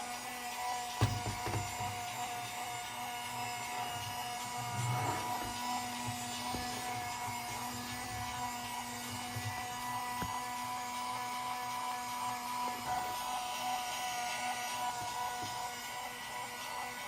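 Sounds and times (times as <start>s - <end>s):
toy motor whirring: 0.0s - 17.0s.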